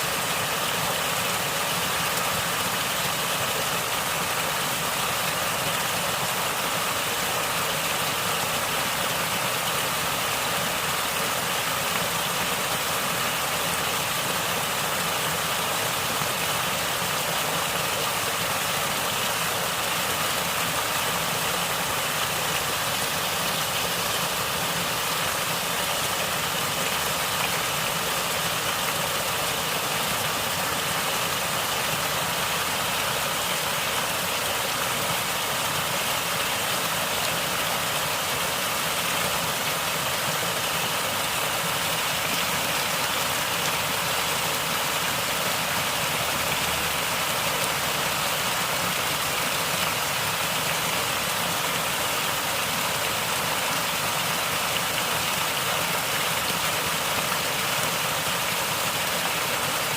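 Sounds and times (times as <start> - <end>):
running water gurgling: 0.0 - 59.9.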